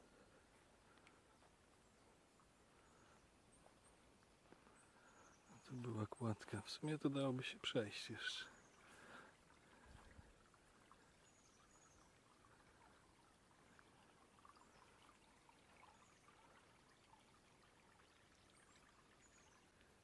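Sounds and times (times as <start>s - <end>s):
stream trickling: 0.0s - 20.0s.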